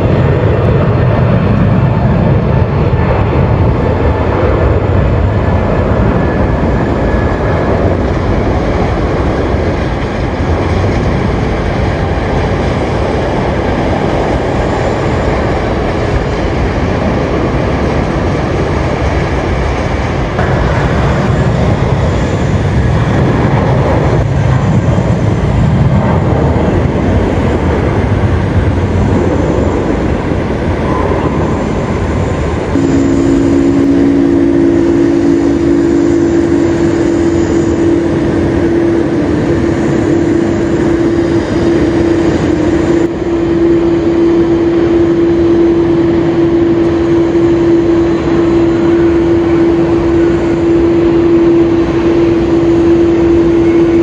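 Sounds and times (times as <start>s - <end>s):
jet engines rumbling: 0.0s - 54.0s
steady hums: 0.0s - 54.0s.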